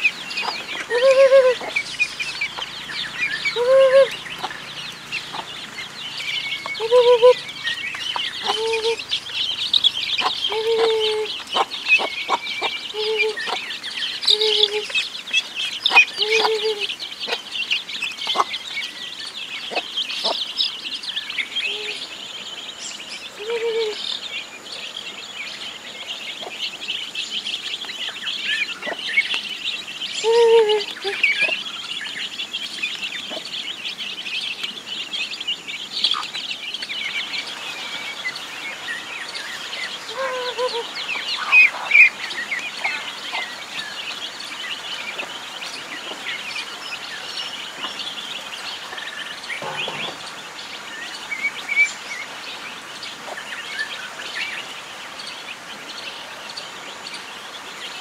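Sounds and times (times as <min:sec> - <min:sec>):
ducklings and chicks peeping: 0:00.0 - 0:58.0
lower falling bird calls: 0:00.0 - 0:58.0.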